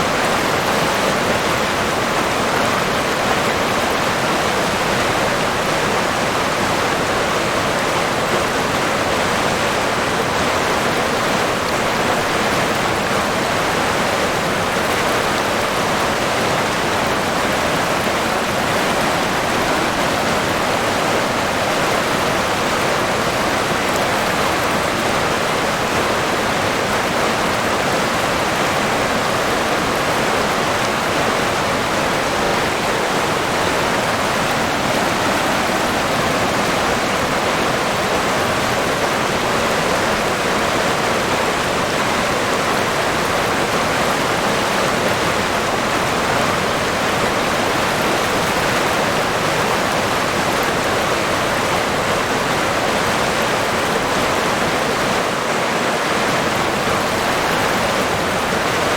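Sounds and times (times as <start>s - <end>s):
river water running: 0.0s - 58.9s.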